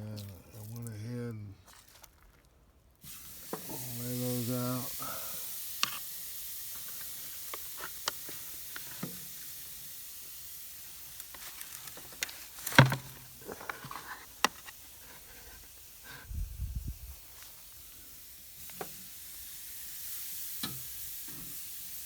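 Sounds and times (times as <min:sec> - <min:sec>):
charcoal crackles and pops: 0:01.7 - 0:16.2, 0:16.9 - 0:22.0
meat sizzling on a grill: 0:03.0 - 0:22.0.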